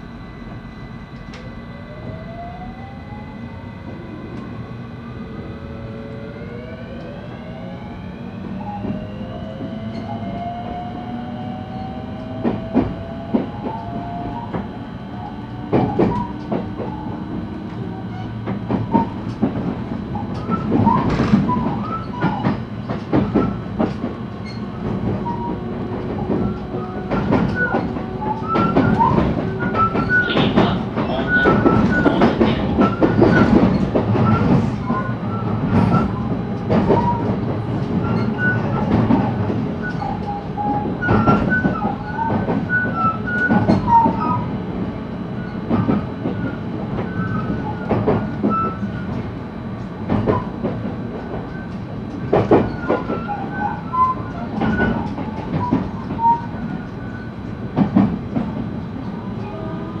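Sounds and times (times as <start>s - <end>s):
rumble of train wheels on rail: 0.0s - 60.0s.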